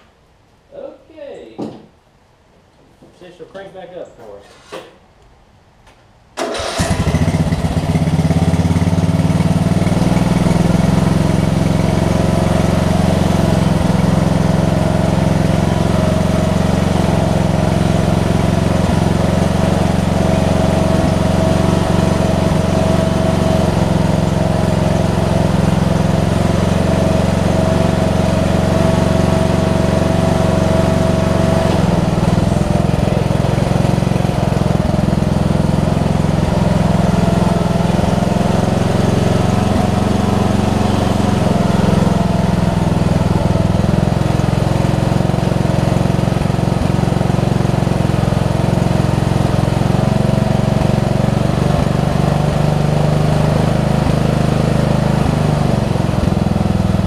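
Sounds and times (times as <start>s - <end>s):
lawn tractor engine running: 6.4s - 57.0s.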